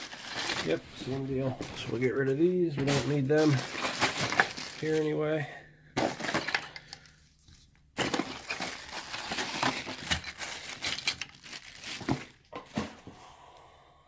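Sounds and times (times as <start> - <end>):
plastic packaging crinkling: 0.0 - 5.2, 6.0 - 12.9.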